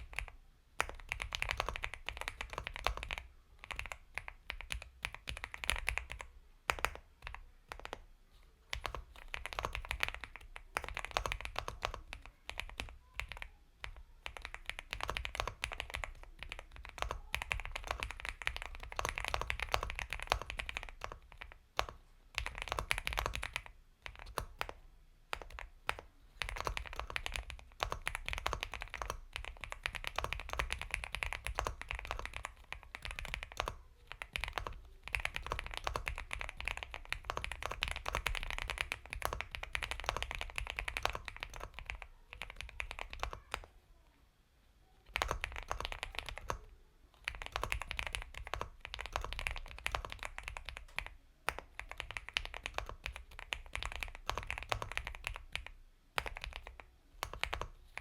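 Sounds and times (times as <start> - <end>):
fast typing on mechanical keyboard: 0.0 - 8.0, 8.7 - 43.7, 45.1 - 58.0.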